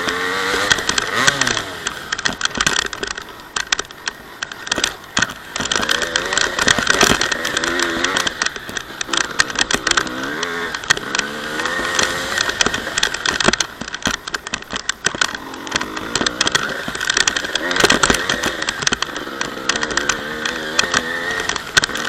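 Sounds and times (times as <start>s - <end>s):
motocross engine revving: 0.0s - 22.0s
sharp clicks and knocks: 0.0s - 22.0s.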